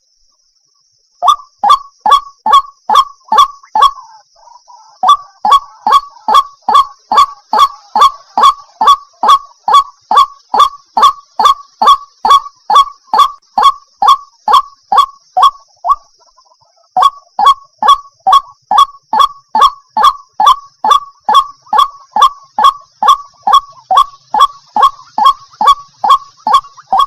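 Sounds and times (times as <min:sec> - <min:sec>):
water hen calling: 0:01.2 - 0:27.0.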